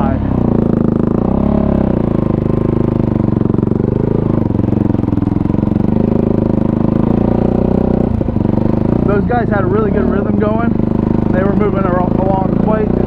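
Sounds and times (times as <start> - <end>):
quad engine running low revs: 0.0 - 13.0.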